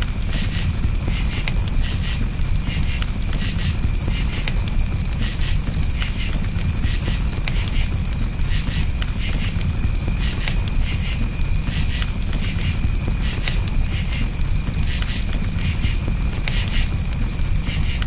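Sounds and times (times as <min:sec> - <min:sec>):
campfire crackling: 0:00.0 - 0:18.0
crickets chirping: 0:00.0 - 0:18.0.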